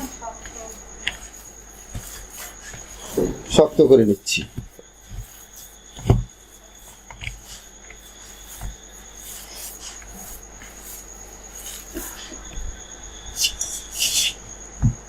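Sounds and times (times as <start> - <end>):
hands squishing dough: 0.0 - 14.4.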